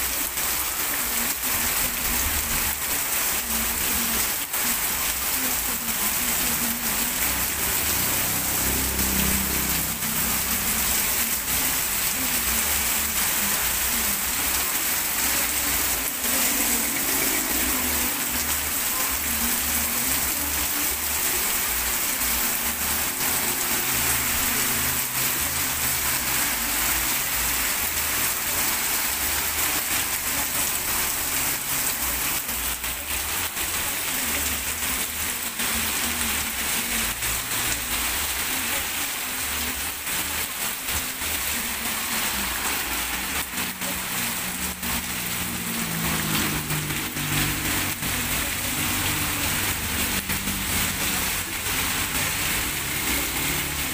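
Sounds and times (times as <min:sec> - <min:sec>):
heavy rain hissing: 0:00.0 - 0:53.9
vehicles driving through water: 0:03.4 - 0:53.9.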